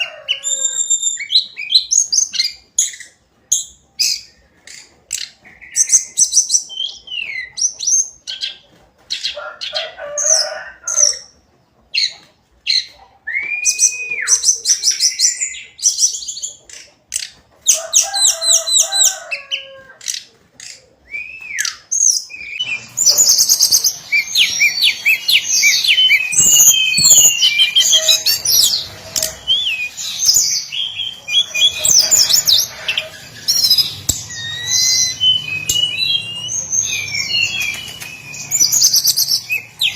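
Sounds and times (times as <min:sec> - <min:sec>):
bird singing trills and whistles: 0:00.4 - 0:08.6, 0:11.9 - 0:17.3, 0:20.1 - 0:39.9.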